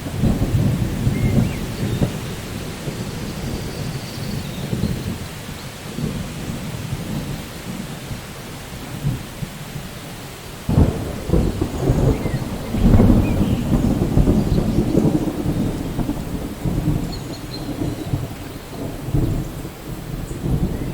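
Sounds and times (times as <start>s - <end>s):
rain falling: 0.0s - 20.9s
thunder rumbling: 0.0s - 20.9s.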